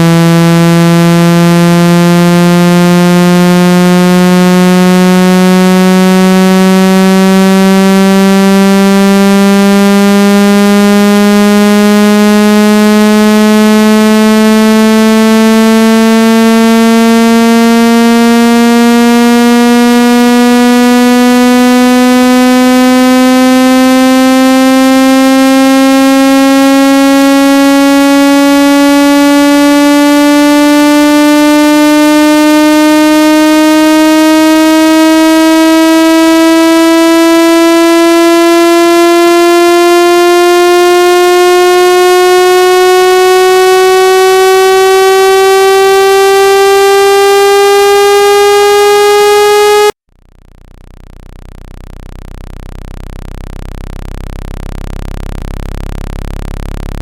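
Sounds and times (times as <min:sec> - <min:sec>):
buzzy synthesized rising tone: 0:00.0 - 0:50.0.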